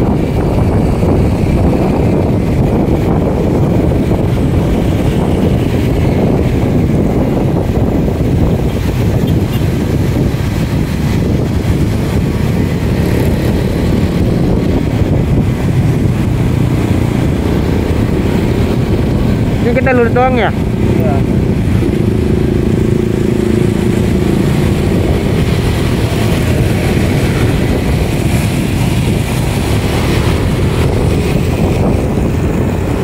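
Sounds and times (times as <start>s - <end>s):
motorcycle engine: 0.0s - 33.0s
road noise: 0.0s - 33.0s
wind noise on microphone: 0.0s - 33.0s.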